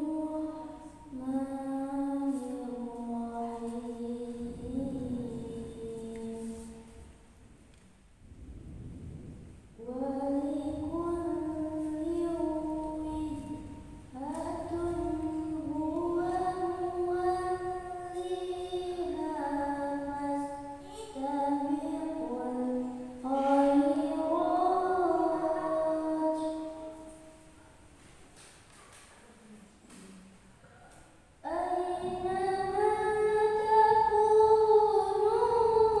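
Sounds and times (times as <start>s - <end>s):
girl reciting melodically: 0.0s - 7.6s, 9.7s - 28.6s, 29.3s - 36.0s.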